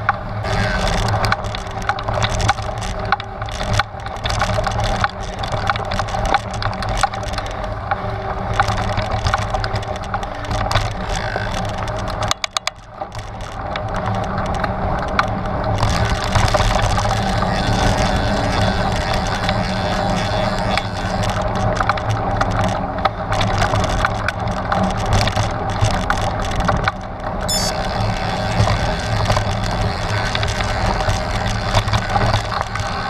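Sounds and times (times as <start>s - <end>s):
bike rattling and knocking: 0.0s - 33.0s
bike tyres rumbling over rocks: 0.1s - 33.0s.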